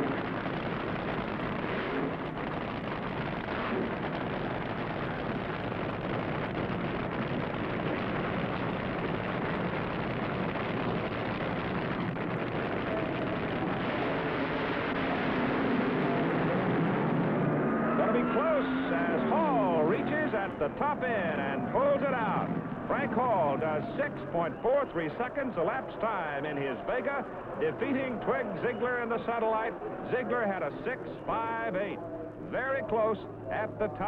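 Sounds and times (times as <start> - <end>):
drag racing engines at full throttle: 0.0 - 34.0.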